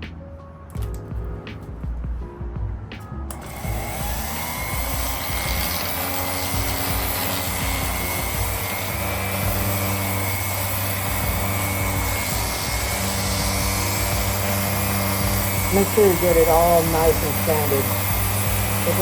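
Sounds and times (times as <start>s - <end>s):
electric power sander running: 3.3s - 19.0s.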